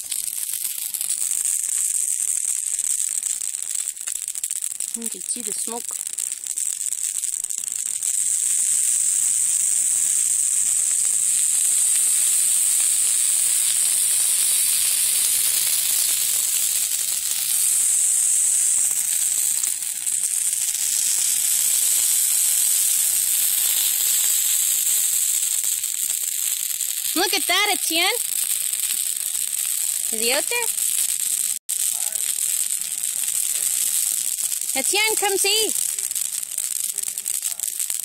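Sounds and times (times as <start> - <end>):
campfire hissing and crackling: 0.0 - 38.0.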